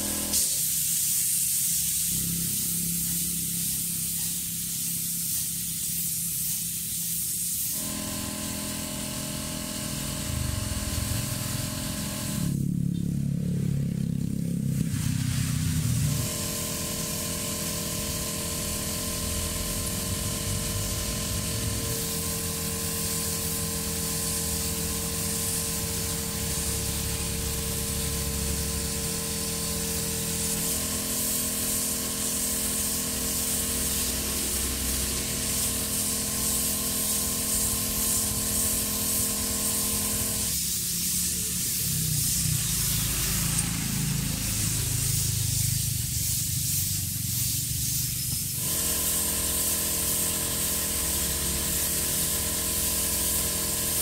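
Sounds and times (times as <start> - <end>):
spray paint can hissing: 0.0 - 54.0.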